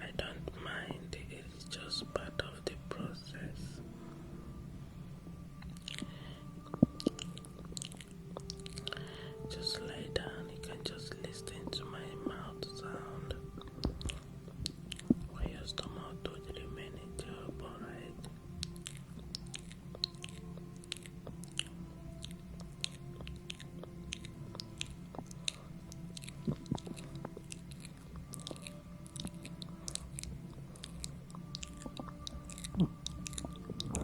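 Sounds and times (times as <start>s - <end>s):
stomach gurgling: 5.2s - 34.0s.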